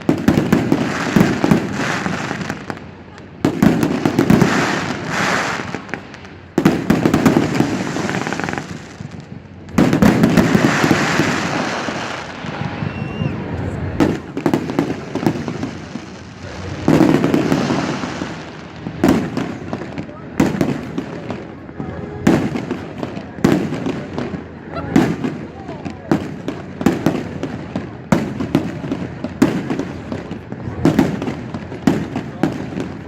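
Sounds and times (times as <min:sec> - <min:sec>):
fireworks booming: 0:00.0 - 0:33.0
fireworks crackling: 0:00.0 - 0:33.0.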